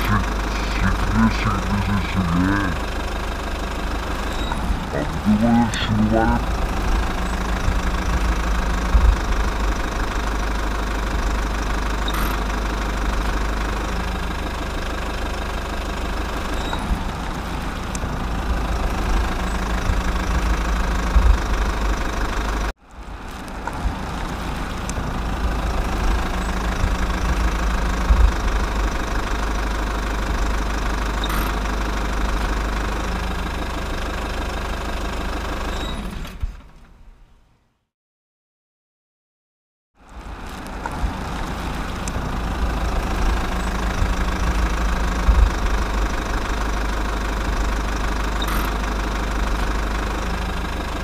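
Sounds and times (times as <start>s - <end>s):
engine running: 0.0s - 37.0s, 40.0s - 51.0s.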